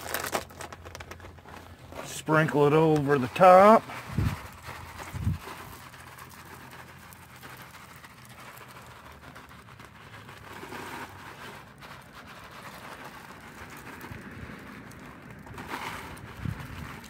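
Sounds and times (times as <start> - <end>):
plastic bag rustling and crinkling: 0.0 - 17.0.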